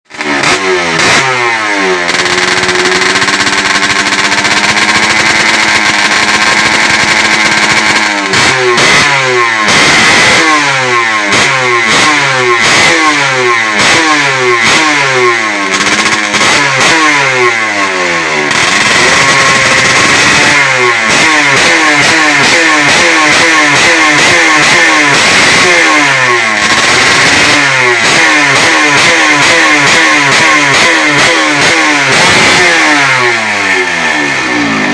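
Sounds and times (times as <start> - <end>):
two-stroke engine revving: 0.1 - 34.9.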